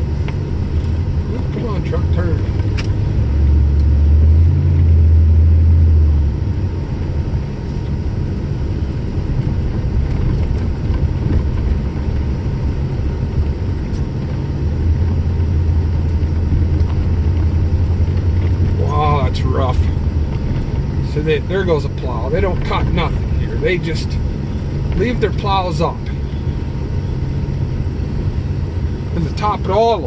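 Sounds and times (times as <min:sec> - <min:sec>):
truck engine and tyres rumbling: 0:00.0 - 0:30.0.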